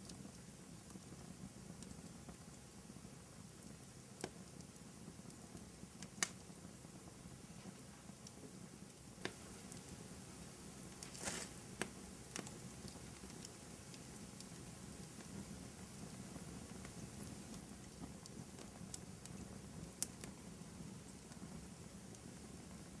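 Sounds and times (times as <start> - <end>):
low steady hiss: 0.0 - 23.0
sharp pops of fire: 0.0 - 23.0
wood fire crackling: 0.0 - 23.0.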